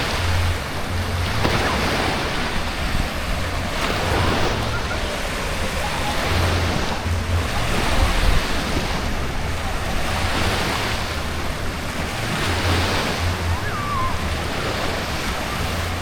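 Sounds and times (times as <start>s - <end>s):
water splashing: 0.0s - 16.0s
wind rumble on microphone: 0.0s - 16.0s.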